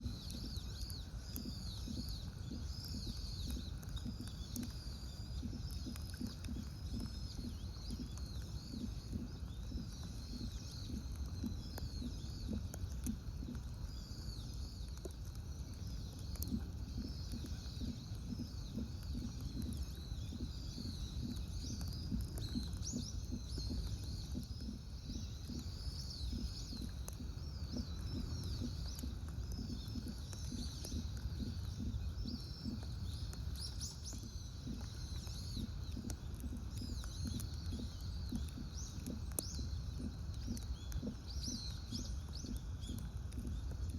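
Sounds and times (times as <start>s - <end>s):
low outdoor rumble: 0.0s - 43.9s
small birds chirping: 0.0s - 43.9s.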